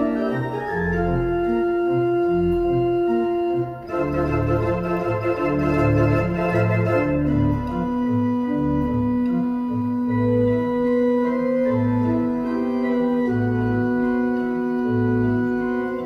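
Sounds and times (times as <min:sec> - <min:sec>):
pipe organ jazzy melody: 0:00.0 - 0:16.0.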